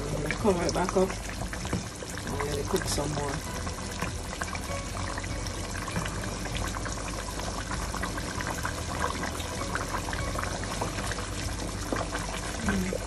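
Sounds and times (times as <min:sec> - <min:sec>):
curry bubbling at a simmer: 0:00.0 - 0:13.0.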